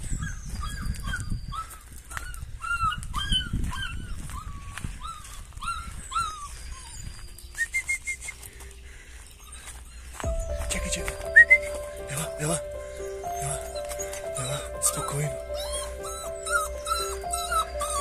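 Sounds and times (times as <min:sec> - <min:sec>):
puppy whimpering yelps: 0:00.0 - 0:07.9, 0:09.4 - 0:12.6, 0:13.2 - 0:18.0.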